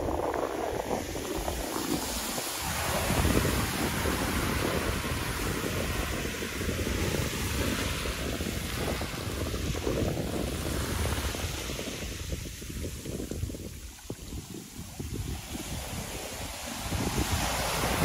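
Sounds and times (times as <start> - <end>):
waves washing over gravel: 0.0 - 18.0
wind buffeting microphone: 0.0 - 18.0.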